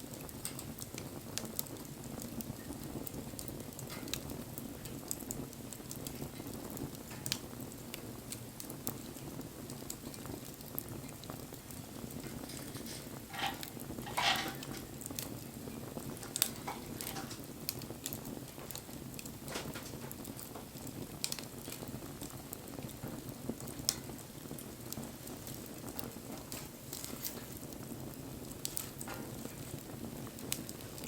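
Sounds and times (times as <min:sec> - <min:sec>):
fire crackles and pops: 0:00.0 - 0:31.0
hissing crackle: 0:00.0 - 0:31.0
low rush of flame: 0:00.0 - 0:31.0.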